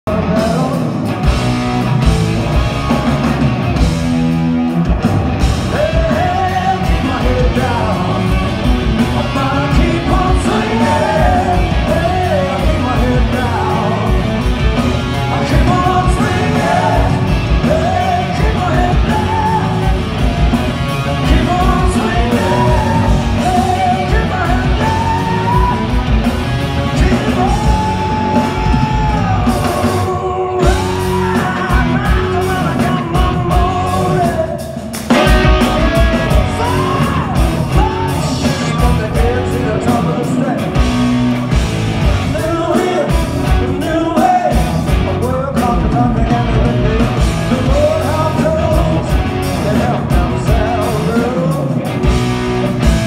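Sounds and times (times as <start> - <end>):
bass guitar: 0.0 - 53.0
drums: 0.0 - 53.0
electric guitar: 0.0 - 53.0
person singing: 5.6 - 14.4, 15.1 - 26.1, 26.8 - 41.0, 42.2 - 52.2.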